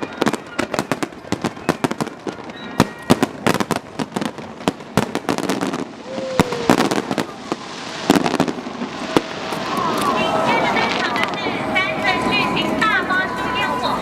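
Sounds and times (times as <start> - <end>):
fireworks bangs and crackles: 0.0 - 13.2.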